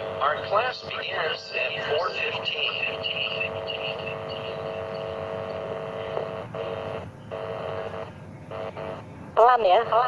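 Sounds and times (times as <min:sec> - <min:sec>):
electronic hum of held tones: 0:00.0 - 0:10.0.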